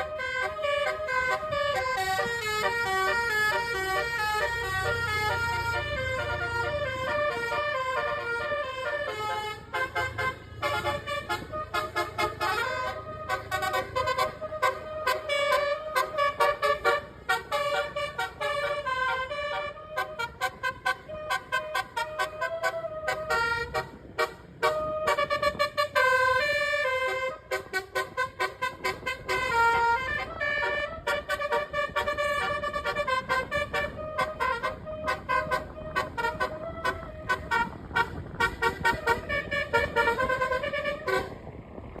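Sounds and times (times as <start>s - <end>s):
bus air horn melody: 0.0s - 41.8s
low engine rumble: 0.0s - 42.0s.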